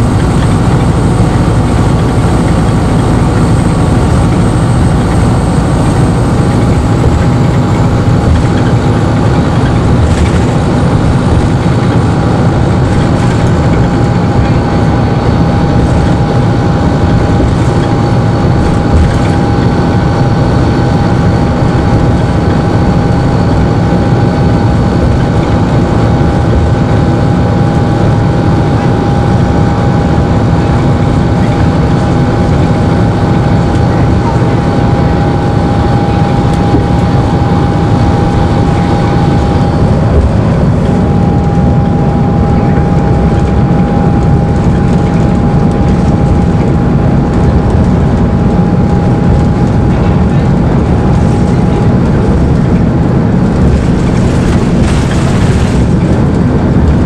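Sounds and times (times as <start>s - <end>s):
diesel bus engine rumble: 0.0s - 57.0s
high whine: 0.0s - 57.0s.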